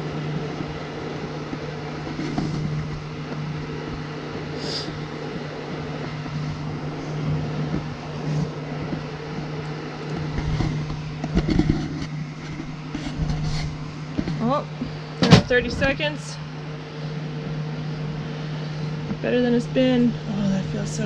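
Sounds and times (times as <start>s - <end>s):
fan heater motor hum: 0.0s - 21.0s.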